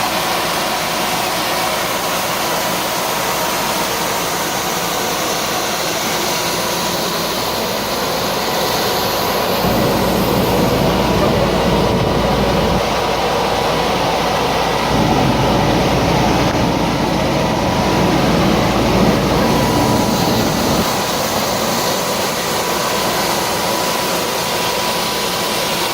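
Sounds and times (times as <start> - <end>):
vacuum sweeper running: 0.0 - 25.9.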